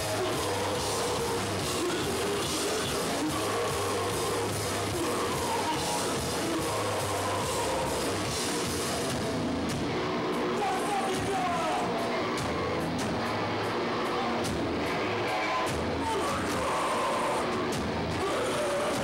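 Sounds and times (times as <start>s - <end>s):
punk band playing live: 0.0s - 19.0s.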